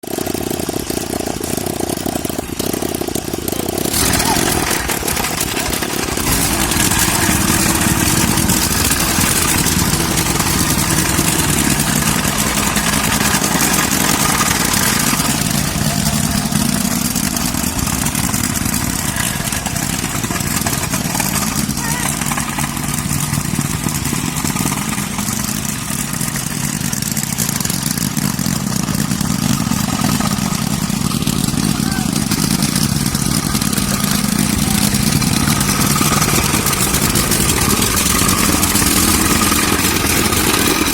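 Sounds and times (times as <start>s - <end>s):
soil compactor engine running: 0.0s - 40.9s.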